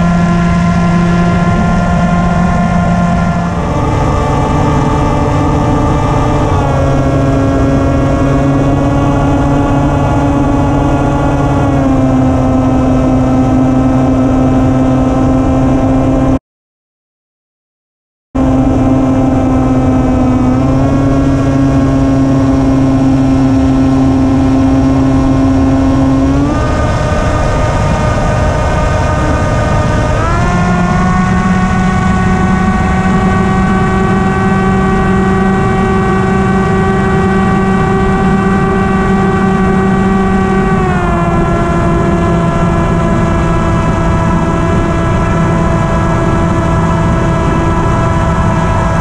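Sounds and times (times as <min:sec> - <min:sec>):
motor and propeller whine: 0:00.0 - 0:16.4, 0:18.4 - 0:49.0
rushing wind: 0:00.0 - 0:16.4, 0:18.4 - 0:49.0.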